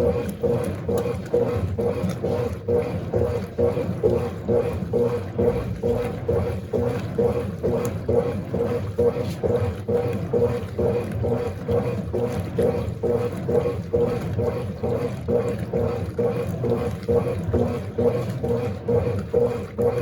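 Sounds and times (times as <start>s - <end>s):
washing machine sloshing: 0.0s - 20.0s.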